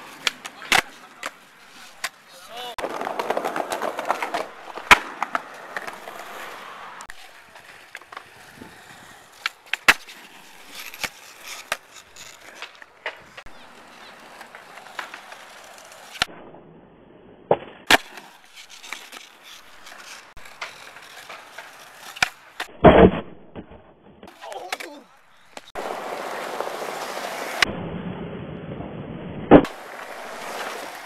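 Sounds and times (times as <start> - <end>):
skateboard pops and landings: 0.0 - 2.2, 2.8 - 13.5, 14.1 - 16.6, 17.4 - 28.4, 29.3 - 31.0
skateboard wheels rolling on concrete: 0.0 - 31.0.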